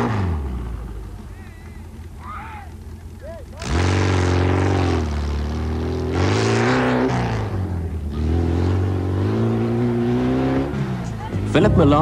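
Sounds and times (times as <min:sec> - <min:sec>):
buggy engine running hard: 0:00.0 - 0:12.0.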